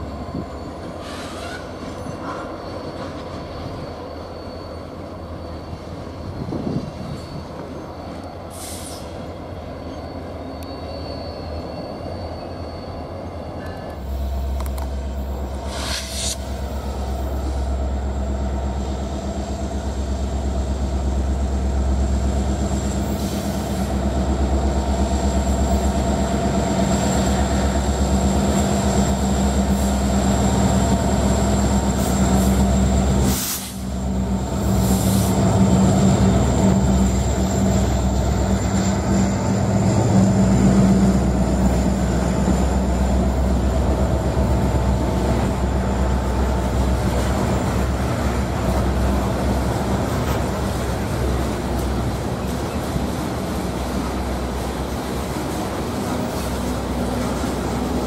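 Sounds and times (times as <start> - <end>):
diesel locomotives running: 0.0 - 58.0
freight cars rolling on rails: 0.0 - 58.0.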